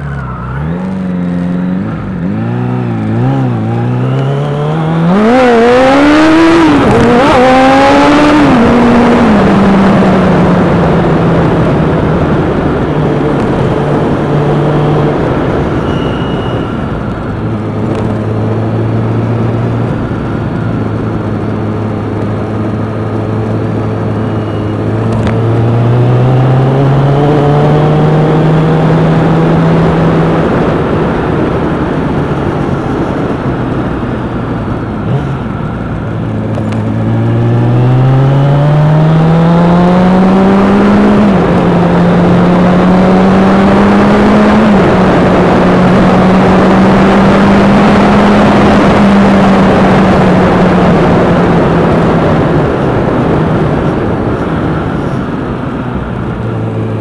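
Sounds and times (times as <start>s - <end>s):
vehicle engine revving: 0.0s - 16.2s, 17.0s - 33.5s, 34.8s - 57.0s
road and wind rush: 0.0s - 57.0s.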